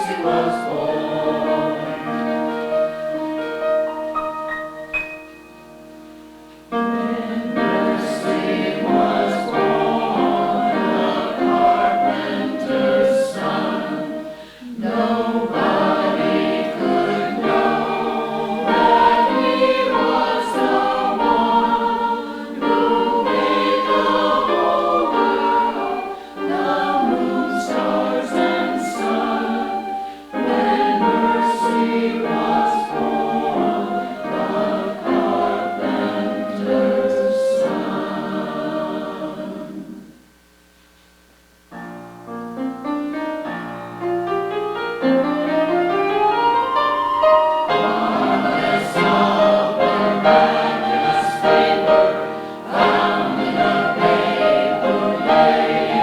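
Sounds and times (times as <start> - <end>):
church choir singing in harmony: 0.0 - 40.2, 43.1 - 56.0.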